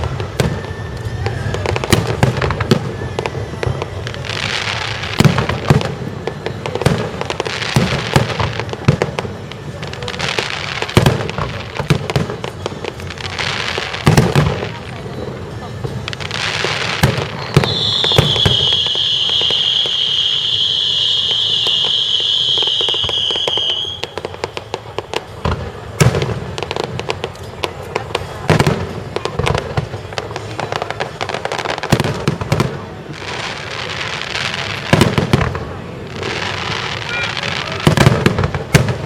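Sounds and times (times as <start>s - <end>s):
firework whistle: 0.0s - 39.0s
fireworks crackling: 0.0s - 39.0s.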